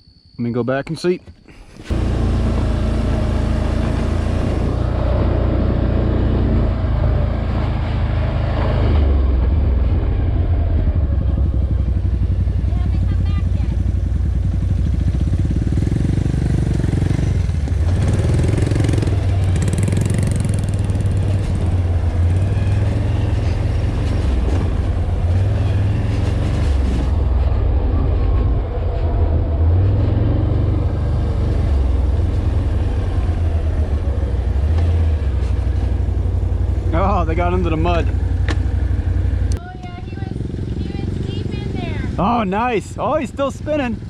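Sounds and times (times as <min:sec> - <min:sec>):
atv engine running: 0:01.5 - 0:44.0.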